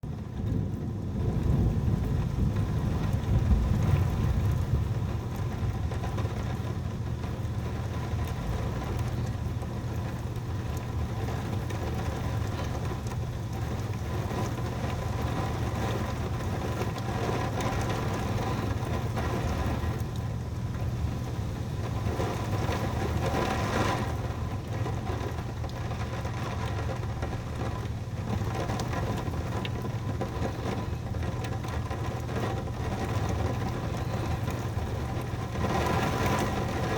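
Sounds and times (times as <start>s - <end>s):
thunder rumble: 0.0s - 36.9s
constant low hum: 0.1s - 36.9s
heavy rain falling: 0.1s - 36.9s.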